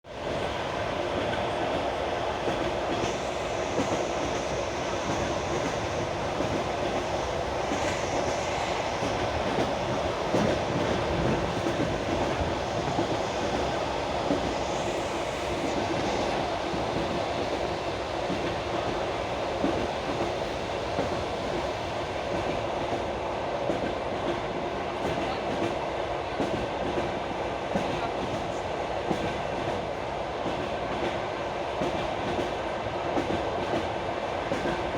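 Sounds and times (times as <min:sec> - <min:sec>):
train running rumble: 0:00.1 - 0:34.9.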